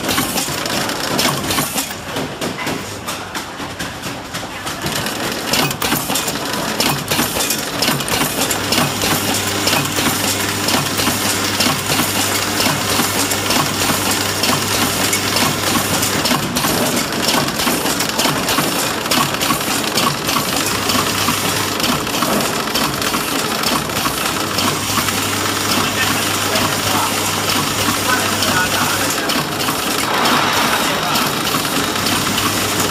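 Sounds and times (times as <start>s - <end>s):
wrapping machine clattering: 0.0s - 32.9s.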